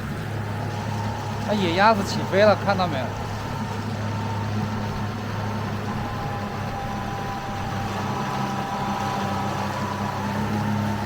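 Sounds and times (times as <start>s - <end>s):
electric outboard motor hum: 0.0s - 11.0s
wind and water hiss: 0.0s - 11.0s.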